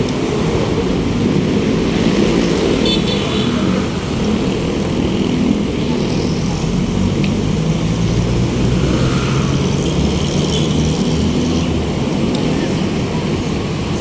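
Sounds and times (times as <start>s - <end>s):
street noise: 0.0s - 14.0s
vehicle engines humming: 0.0s - 14.0s.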